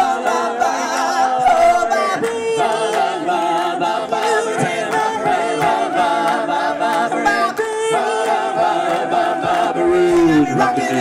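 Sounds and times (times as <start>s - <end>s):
audience singing along: 0.0s - 11.0s
male a cappella group singing: 0.0s - 11.0s.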